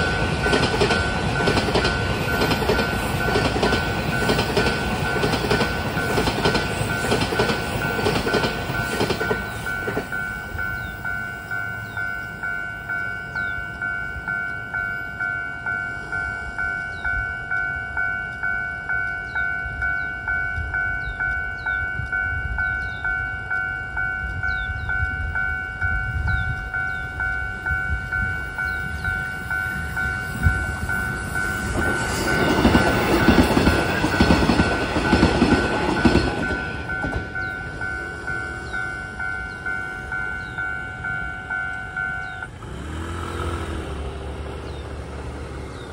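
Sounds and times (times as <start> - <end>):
level crossing warning bell: 0.0 - 45.9
train rumble: 0.0 - 45.9.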